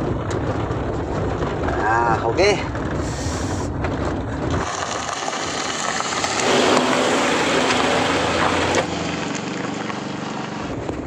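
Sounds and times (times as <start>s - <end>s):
car engine tone: 0.0s - 11.0s
road and tyre noise: 0.0s - 11.0s.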